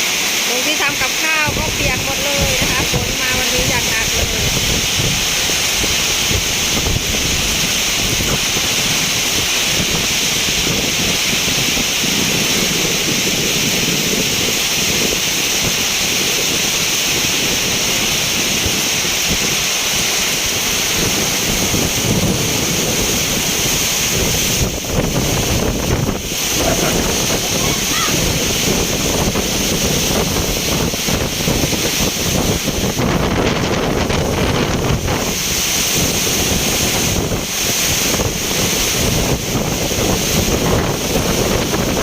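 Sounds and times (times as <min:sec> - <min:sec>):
heavy rain pouring: 0:00.0 - 0:42.0
wind buffeting microphone: 0:00.0 - 0:42.0.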